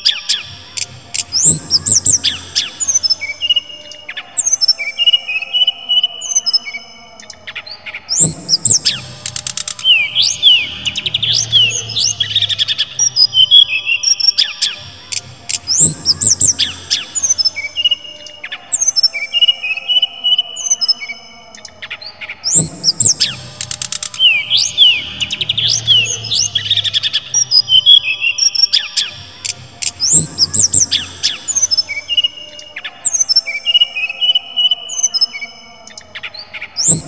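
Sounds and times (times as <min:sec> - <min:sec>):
bird singing high chirps: 0:00.0 - 0:37.0.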